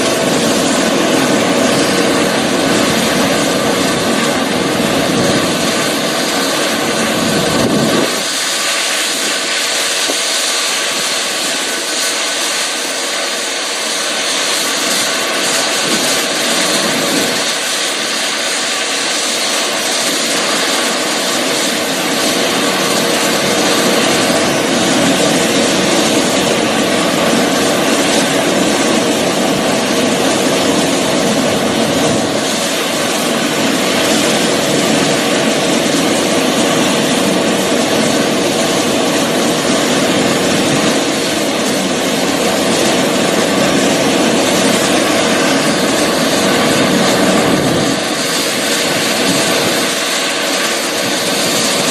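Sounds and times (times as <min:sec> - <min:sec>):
helicopter rotor noise: 0:00.0 - 0:51.9
helicopter turbine whine: 0:00.0 - 0:51.9.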